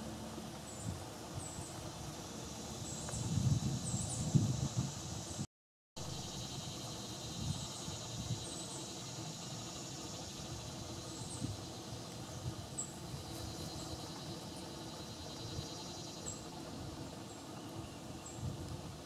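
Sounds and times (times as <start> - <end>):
insects trilling: 0.0 - 5.4, 6.0 - 18.6.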